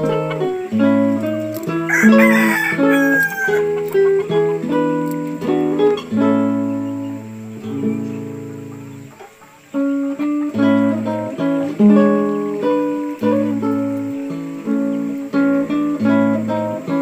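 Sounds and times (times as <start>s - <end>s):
guitar plucked and strummed: 0.0s - 17.0s.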